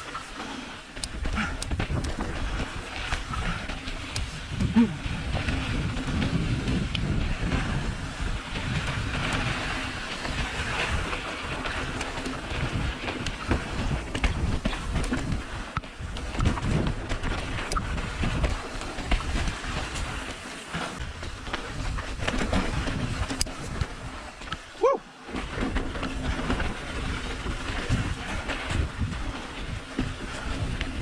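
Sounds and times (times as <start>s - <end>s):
wind buffeting microphone: 0.0s - 24.8s, 25.4s - 31.0s
rumble of riding rough trail: 0.0s - 31.0s.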